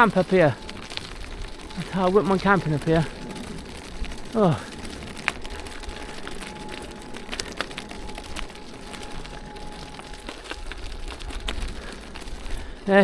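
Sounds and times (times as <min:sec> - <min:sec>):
bike clicks and rattles: 0:00.0 - 0:13.0
faint steady whine: 0:00.0 - 0:13.0
wind rumble on microphone: 0:00.0 - 0:13.0.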